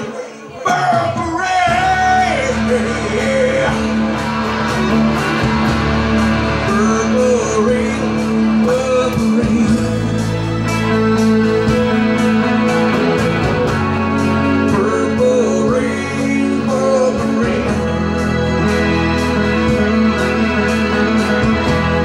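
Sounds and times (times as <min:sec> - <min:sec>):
electric guitar rock ballad: 0:00.0 - 0:22.0.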